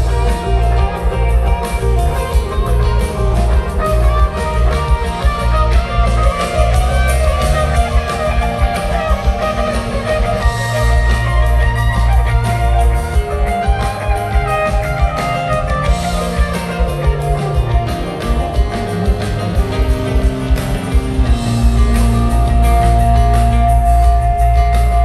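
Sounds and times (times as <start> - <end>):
electric guitar lines: 0.0 - 25.0
rock band jamming: 0.0 - 25.0.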